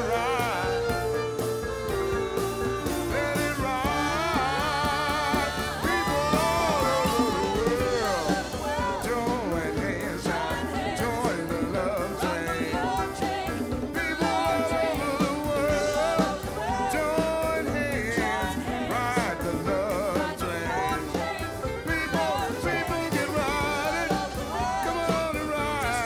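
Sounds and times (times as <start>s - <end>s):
backing singers: 0.0s - 26.0s
live soul band playing: 0.0s - 26.0s
person singing: 0.0s - 26.0s.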